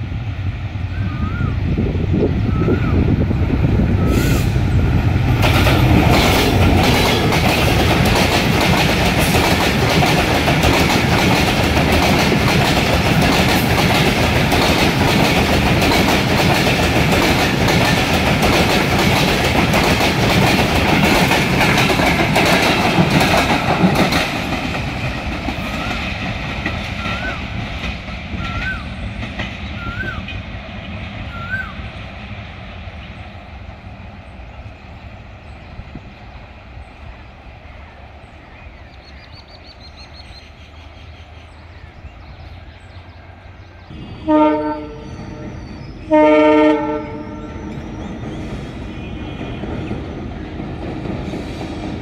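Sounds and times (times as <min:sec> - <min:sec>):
train passing at speed: 0:00.0 - 0:52.0
train wheels rumbling on rails: 0:00.0 - 0:52.0.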